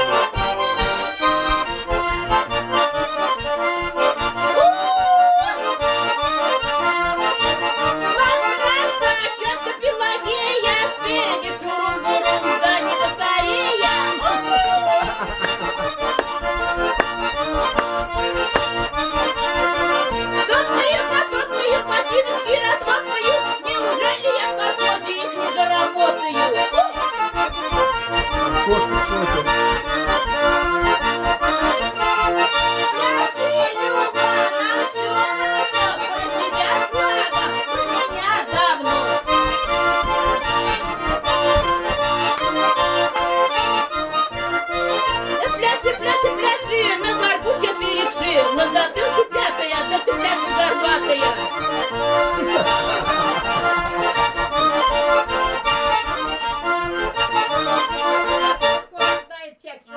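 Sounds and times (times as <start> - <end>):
button accordion playing a tune: 0.0 - 59.9.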